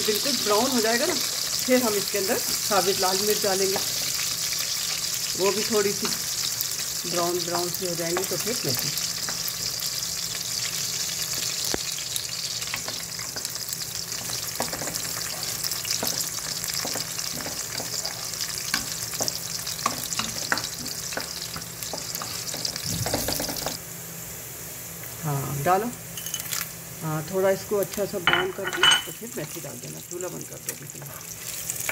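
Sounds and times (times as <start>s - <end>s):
garlic sizzling in hot oil: 0.0s - 31.9s.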